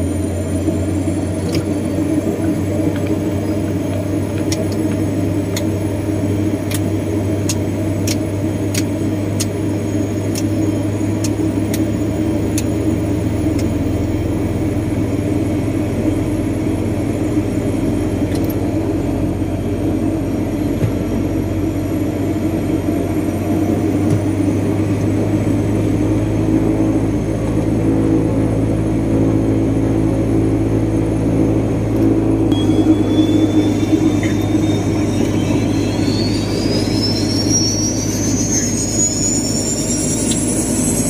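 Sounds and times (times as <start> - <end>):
propeller engine drone: 0.0 - 41.0.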